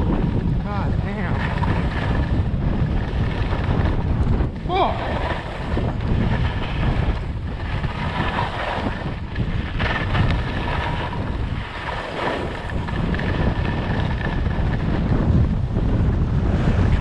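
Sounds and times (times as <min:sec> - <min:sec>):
skis sliding on snow: 0:00.0 - 0:17.0
wind buffeting microphone: 0:00.0 - 0:17.0.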